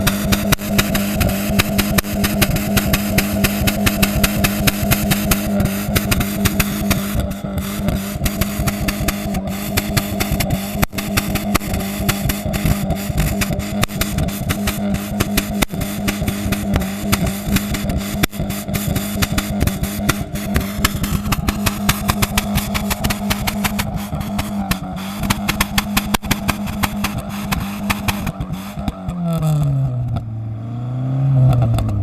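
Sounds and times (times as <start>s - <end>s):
exhaust crackling pops: 0.0s - 30.4s, 31.4s - 32.0s
car exhaust running: 0.0s - 32.0s.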